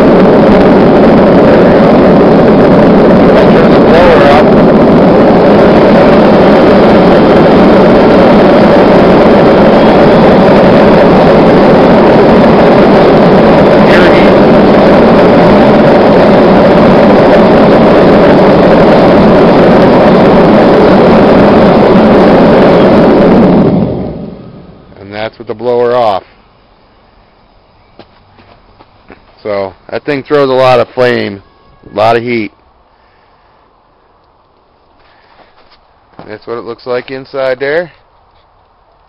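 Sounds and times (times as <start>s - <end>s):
gas forge roaring: 0.0s - 39.0s.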